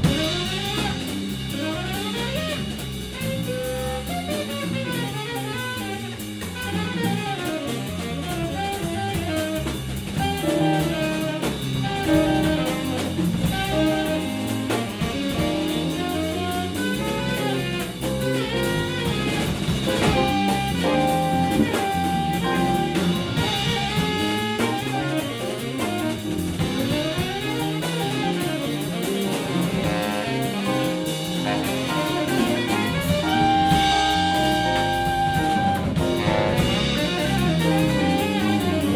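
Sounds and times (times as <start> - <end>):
jazz band playing: 0.0 - 38.9.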